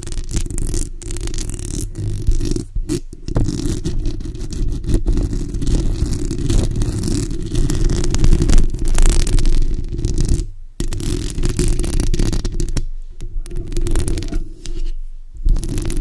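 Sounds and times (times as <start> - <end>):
fingernails scratching microphone grille: 0.0 - 16.0.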